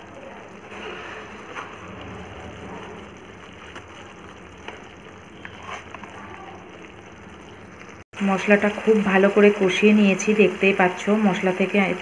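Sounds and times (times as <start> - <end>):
spice paste sizzling and bubbling: 0.0 - 12.0.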